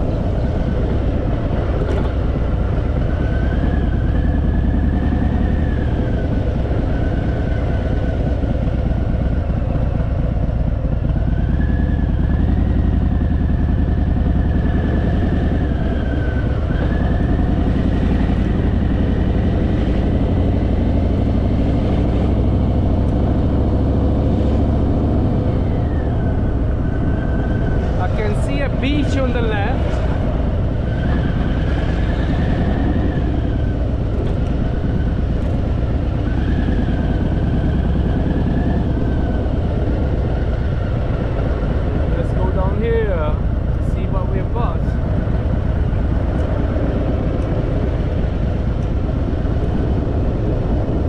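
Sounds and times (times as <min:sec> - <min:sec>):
motorcycle engine droning: 0:00.0 - 0:51.0.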